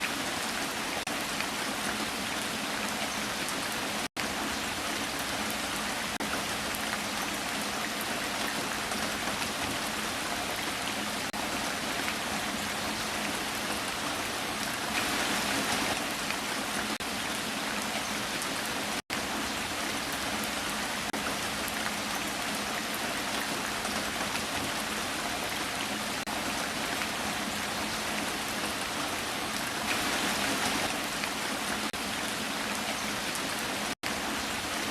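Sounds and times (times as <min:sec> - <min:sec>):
rain falling on a surface: 0:00.0 - 0:34.9.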